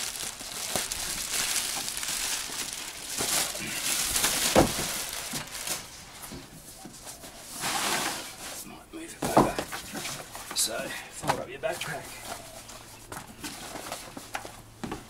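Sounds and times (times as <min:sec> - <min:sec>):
plastic wrapping rustling: 0:00.0 - 0:08.6, 0:09.2 - 0:15.0.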